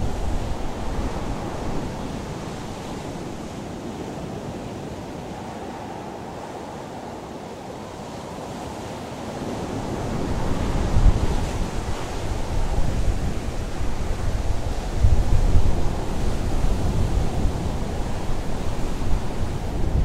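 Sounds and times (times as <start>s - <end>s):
sea surf: 0.0s - 20.0s
wind: 0.0s - 20.0s.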